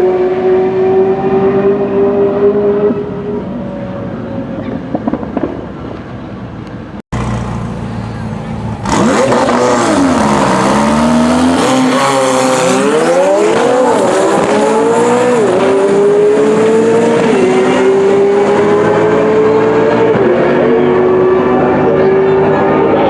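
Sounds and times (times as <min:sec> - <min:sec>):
car engine accelerating with upshifts: 0:00.0 - 0:05.2, 0:07.2 - 0:23.0.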